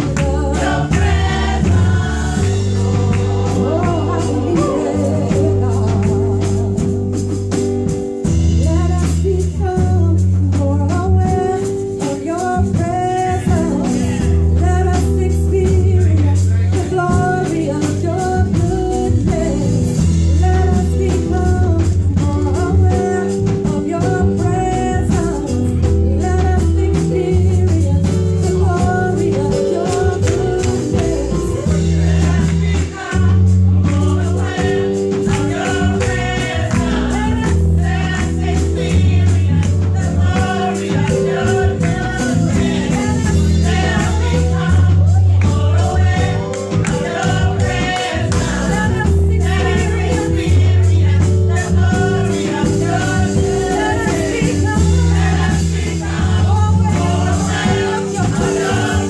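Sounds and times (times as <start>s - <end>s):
instrumental backing with bass: 0.0s - 59.0s
women's group singing gospel: 0.0s - 59.0s.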